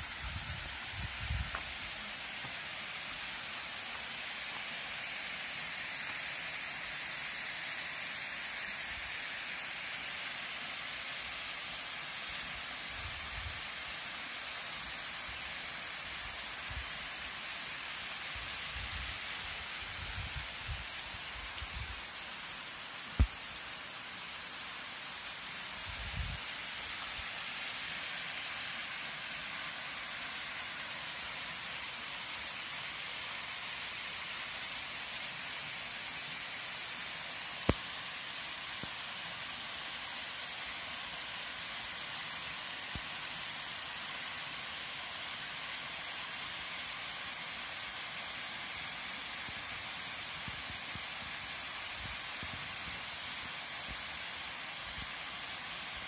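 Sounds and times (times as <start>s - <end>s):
waterfall splashing into pool: 0.0s - 56.0s.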